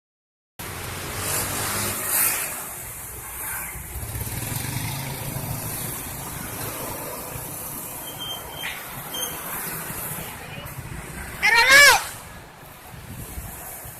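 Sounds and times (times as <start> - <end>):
road noise hiss: 0.6 - 13.9
vehicle engine rumbling: 0.6 - 13.9
wind gust: 0.7 - 13.9.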